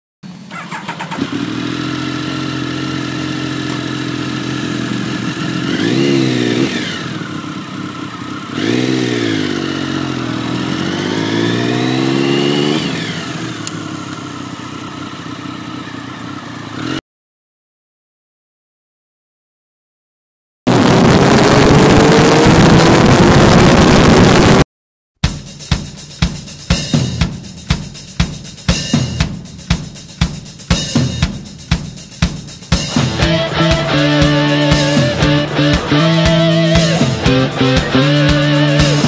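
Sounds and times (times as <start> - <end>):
motorcycle engine revving: 0.2 - 17.0, 20.7 - 24.6, 25.2 - 39.0.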